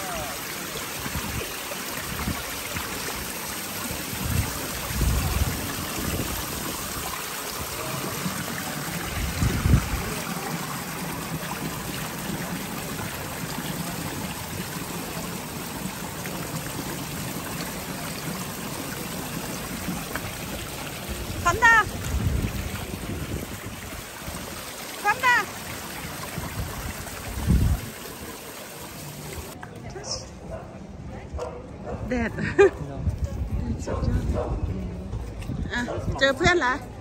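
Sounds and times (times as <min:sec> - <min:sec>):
fountain water splashing: 0:00.0 - 0:29.9.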